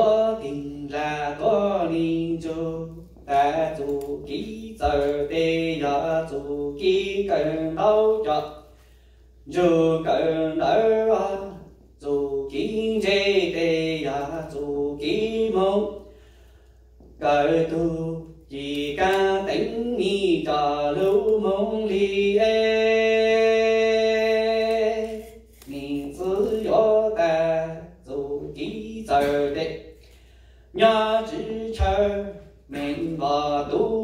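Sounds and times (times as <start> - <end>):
man chanting into a microphone: 0.0 - 8.8, 9.4 - 16.1, 17.0 - 30.0, 30.7 - 34.0.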